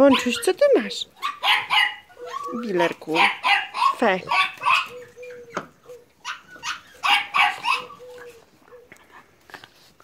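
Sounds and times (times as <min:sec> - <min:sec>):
puppies barking: 0:00.0 - 0:08.9.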